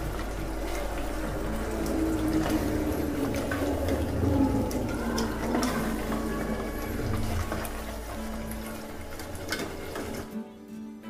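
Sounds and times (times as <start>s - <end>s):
spatula scraping pot: 0.0s - 10.3s
spatula tapping pot: 0.0s - 10.3s
food sizzling in oil: 0.0s - 10.4s.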